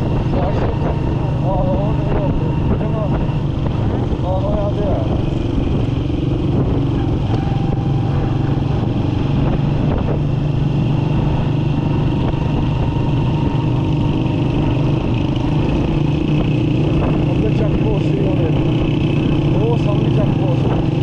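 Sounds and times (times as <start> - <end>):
motorcycle engine running: 0.0 - 21.0
rushing wind: 0.0 - 21.0.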